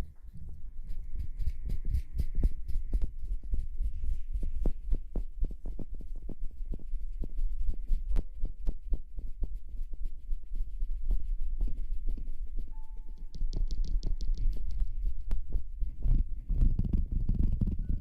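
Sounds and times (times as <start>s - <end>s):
taps and scratches on microphone: 0.0s - 18.0s.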